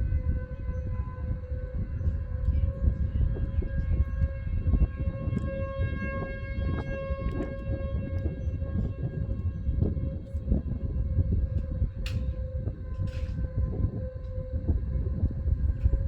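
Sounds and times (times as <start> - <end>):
heavy low rumble: 0.0 - 16.0
tornado warning siren: 0.0 - 16.0.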